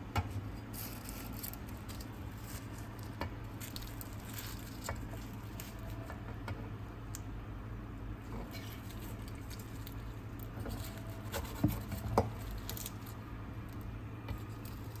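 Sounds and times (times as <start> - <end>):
steady low hum: 0.0 - 15.0
pastry crackling on tray: 0.2 - 7.3, 8.2 - 15.0.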